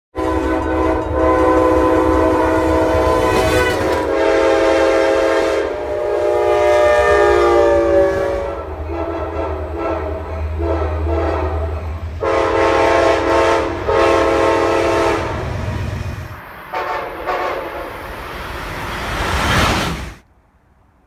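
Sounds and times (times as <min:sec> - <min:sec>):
locomotive air horn: 0:00.1 - 0:15.8, 0:16.6 - 0:18.0
low train rumble: 0:00.2 - 0:21.0.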